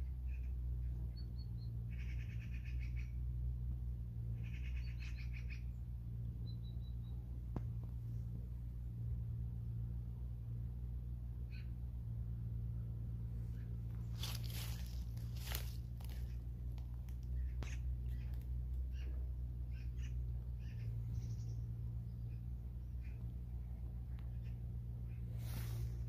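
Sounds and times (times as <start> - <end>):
songbirds trilling: 0.0 - 8.0, 11.3 - 26.0
steady low hum: 0.0 - 26.0.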